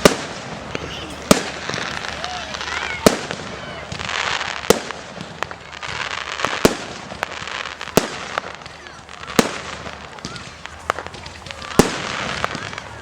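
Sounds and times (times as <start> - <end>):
firework crackle: 0.0 - 13.0
firework shells bursting: 0.0 - 13.0.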